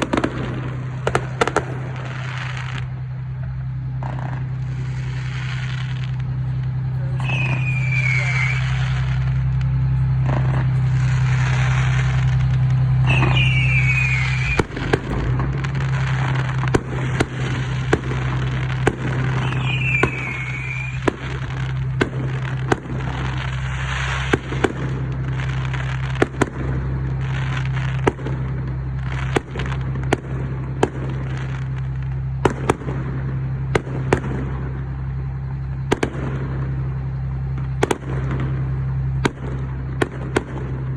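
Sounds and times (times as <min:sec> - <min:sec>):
falling firework whistles: 0:00.0 - 0:40.9
fireworks banging and crackling: 0:00.0 - 0:40.9
steady low hum: 0:00.0 - 0:40.9.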